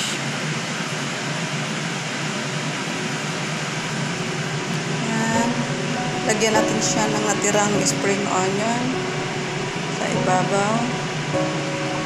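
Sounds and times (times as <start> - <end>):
ventilation fan humming: 0.3 - 12.0.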